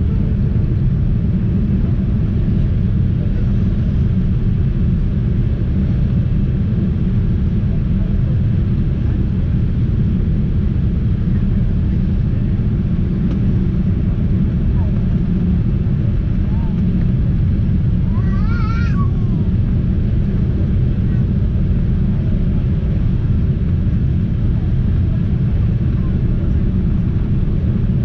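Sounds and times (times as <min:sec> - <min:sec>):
airliner engines rumbling in cabin: 0:00.0 - 0:28.0.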